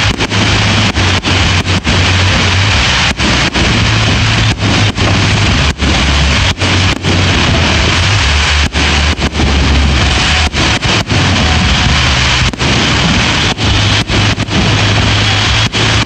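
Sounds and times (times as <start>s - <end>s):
fireworks bursting overhead: 0.0s - 16.0s.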